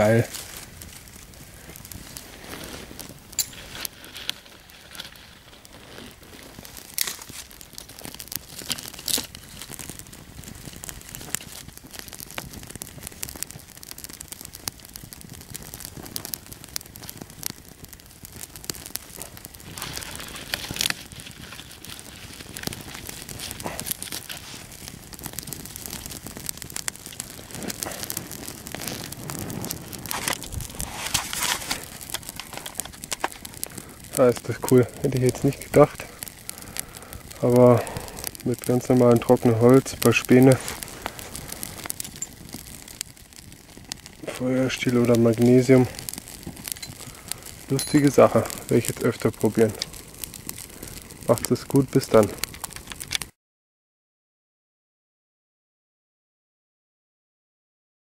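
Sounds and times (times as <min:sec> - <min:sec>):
sharp pops and snaps: 0:00.0 - 0:53.4
small wood fire crackling: 0:00.0 - 0:53.4.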